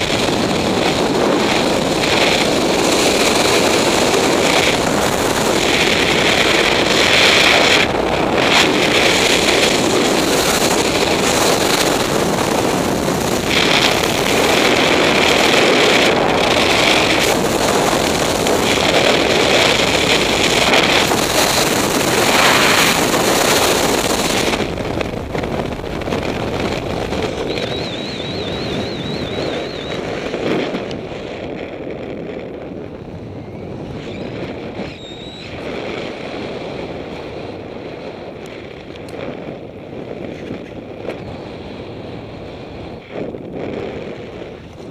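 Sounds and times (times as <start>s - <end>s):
wind rushing over microphone: 0.0s - 44.9s.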